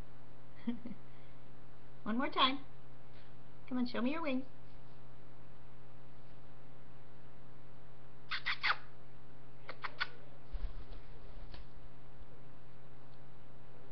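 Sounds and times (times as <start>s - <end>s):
steady electrical hum: 0.0s - 13.9s.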